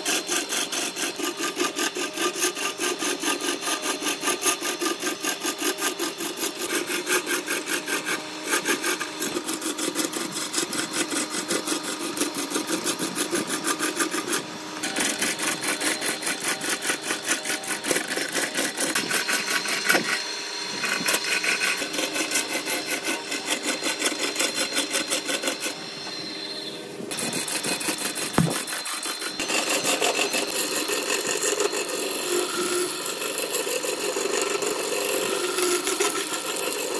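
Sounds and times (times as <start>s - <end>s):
lathe gouge scraping wood: 0.0s - 36.9s.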